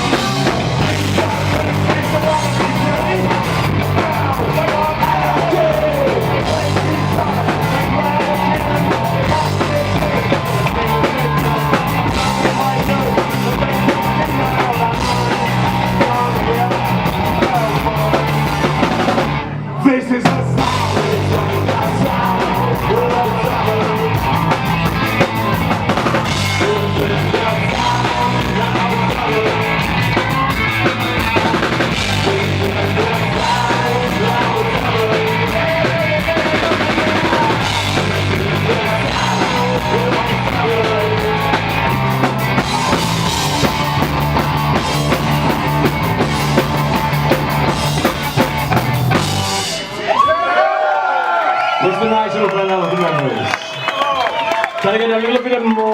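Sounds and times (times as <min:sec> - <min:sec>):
drum kit beat: 0:00.0 - 0:19.4, 0:20.3 - 0:50.0
punk rock band playing live: 0:00.0 - 0:50.1.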